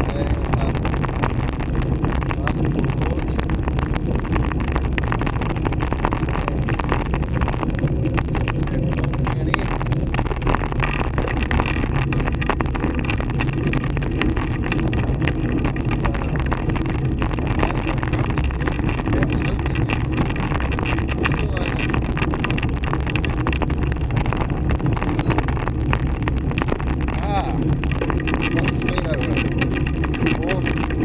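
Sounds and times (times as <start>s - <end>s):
tyres rumbling on road: 0.0s - 31.0s
wind on microphone: 0.0s - 31.0s.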